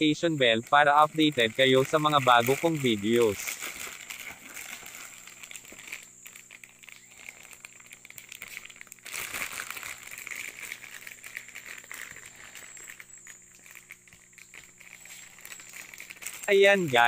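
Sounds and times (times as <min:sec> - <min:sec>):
plastic bag crinkling: 0:00.1 - 0:17.0.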